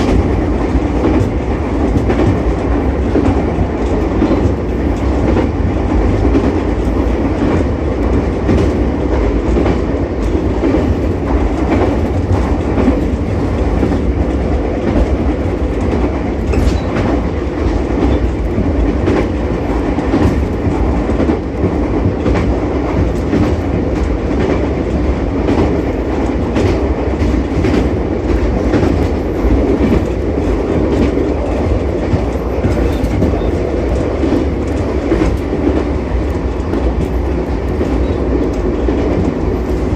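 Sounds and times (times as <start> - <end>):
electric railcar rumbling: 0.0 - 39.9
wheels clicking over rail joints: 0.0 - 39.9.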